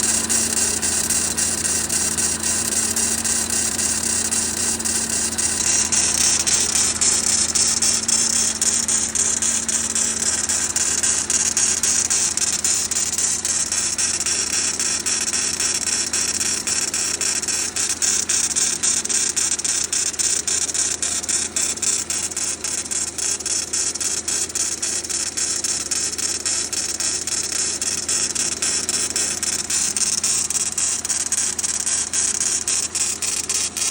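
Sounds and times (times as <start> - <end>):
car engine running: 0.0 - 33.9
rapid engine knocking: 0.0 - 33.9.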